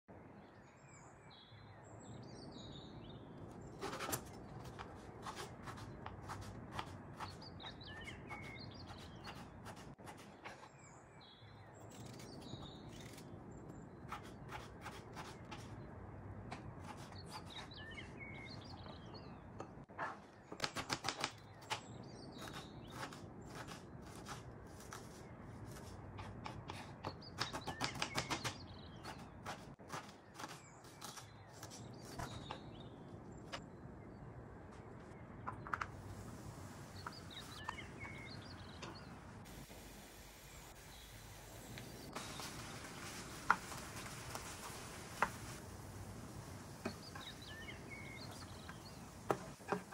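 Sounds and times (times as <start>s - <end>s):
birds chirping: 0.4s - 16.0s, 16.6s - 49.9s.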